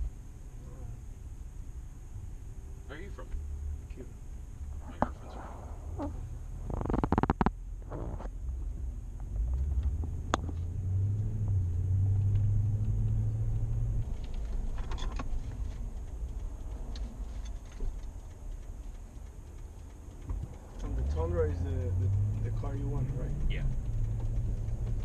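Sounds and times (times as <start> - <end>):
engine and road rumble in cab: 0.0 - 25.0
low hum: 0.0 - 25.0.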